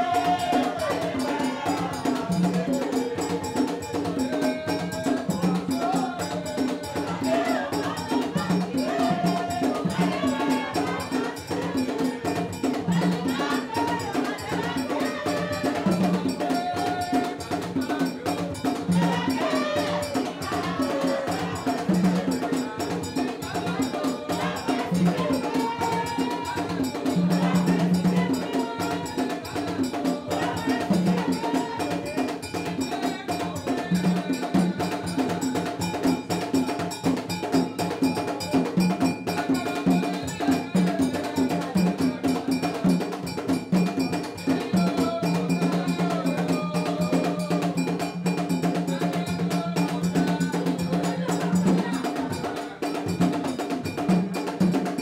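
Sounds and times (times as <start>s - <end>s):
voices singing: 0.0s - 55.0s.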